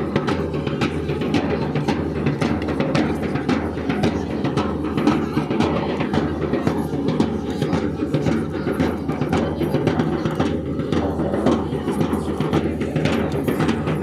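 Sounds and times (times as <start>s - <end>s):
drums beating fast: 0.0s - 14.0s.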